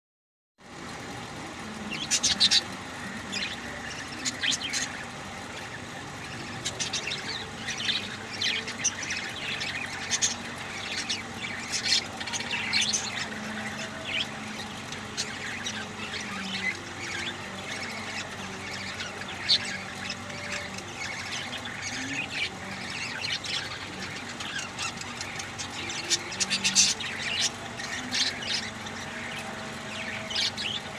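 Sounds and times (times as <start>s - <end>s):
budgerigars chirping: 1.7s - 30.9s.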